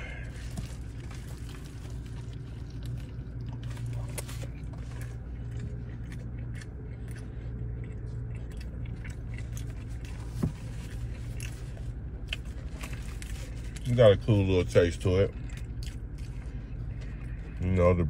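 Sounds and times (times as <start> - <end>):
person chewing crunchy food: 0.0 - 18.0
steady low hum: 0.0 - 18.0.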